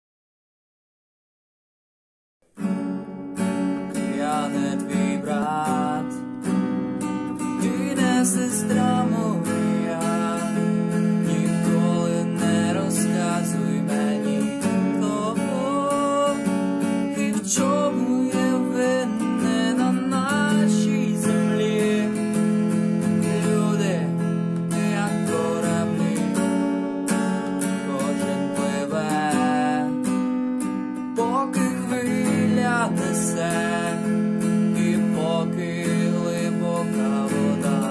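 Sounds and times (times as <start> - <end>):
acoustic guitar strumming chords: 2.4 - 37.9
man singing: 3.9 - 6.3, 7.4 - 26.8, 27.6 - 30.1, 31.1 - 37.9.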